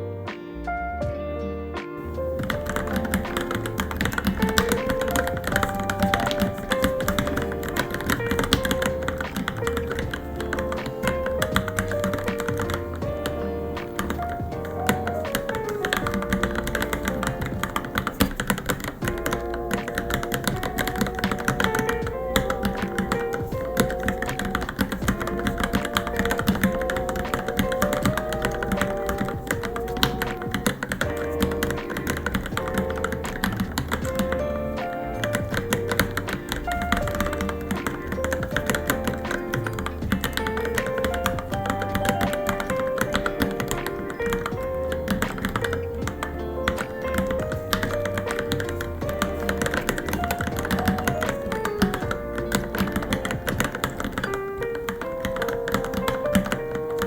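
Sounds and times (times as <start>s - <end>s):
background music: 0.0s - 57.0s
fast typing on mechanical keyboard: 2.4s - 57.0s.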